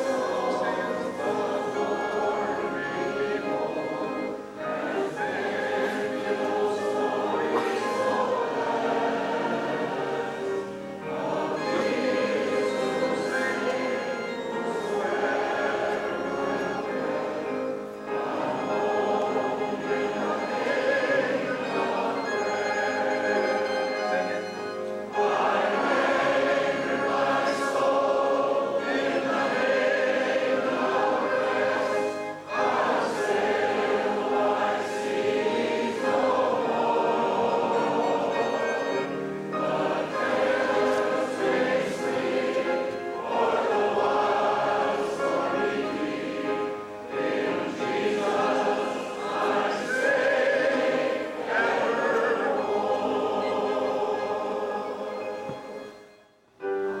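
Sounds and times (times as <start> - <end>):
choir singing sacred song: 0.0 - 57.0.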